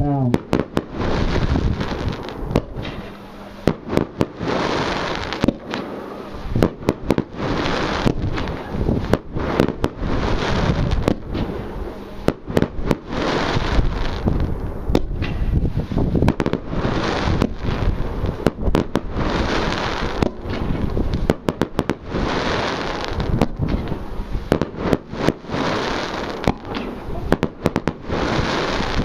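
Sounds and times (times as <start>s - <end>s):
firework bangs: 0.0s - 29.0s
firework crackling: 0.0s - 29.0s.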